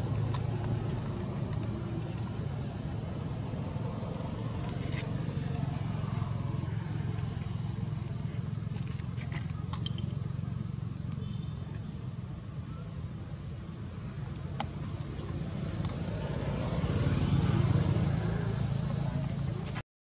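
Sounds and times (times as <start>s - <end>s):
traffic engine rumble: 0.0s - 19.8s.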